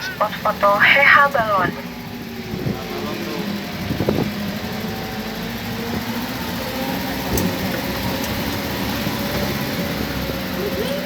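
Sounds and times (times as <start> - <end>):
vehicle engine and tyres running: 0.0 - 11.0.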